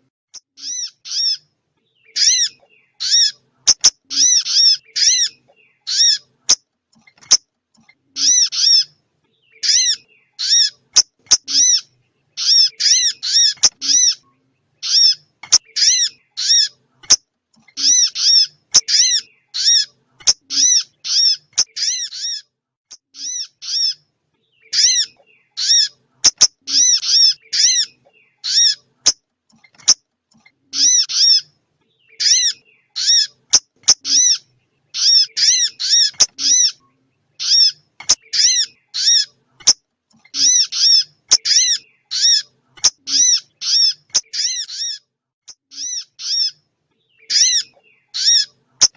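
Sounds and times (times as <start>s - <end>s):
recorded songbird chirps: 0.0s - 48.9s.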